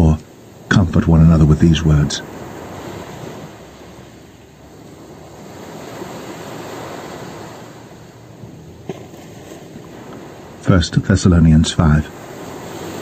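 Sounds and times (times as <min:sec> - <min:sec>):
ocean surf on beach: 0:00.0 - 0:13.0.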